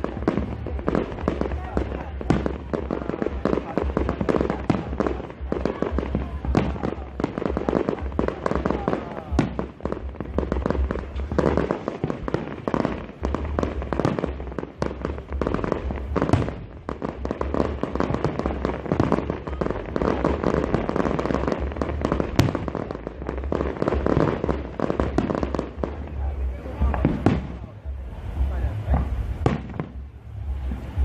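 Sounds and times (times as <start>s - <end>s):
loud firework bang: 0.0s - 27.9s, 28.5s - 31.0s
fireworks crackling and popping: 0.0s - 31.0s.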